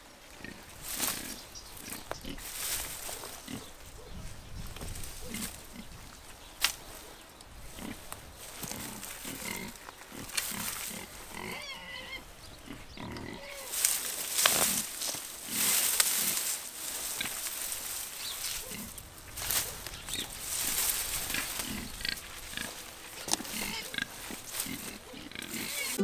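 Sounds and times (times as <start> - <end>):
dry plants rustling and crackling: 0.0 - 26.0
pigs grunting: 0.3 - 4.2, 5.1 - 6.2, 7.0 - 17.5, 18.5 - 26.0.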